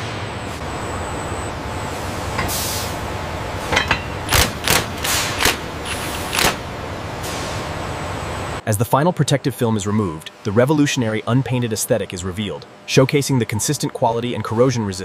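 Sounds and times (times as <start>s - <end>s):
factory machinery noise: 0.0s - 15.0s.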